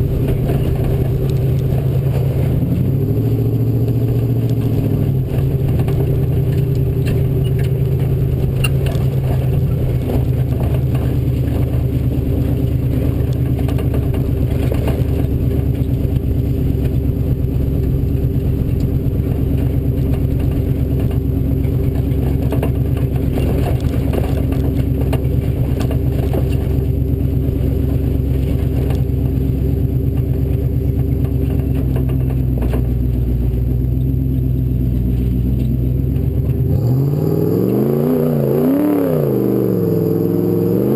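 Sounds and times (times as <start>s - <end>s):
vehicle rattles and knocks: 0.0s - 37.6s
off-road vehicle engine under load: 0.0s - 40.9s.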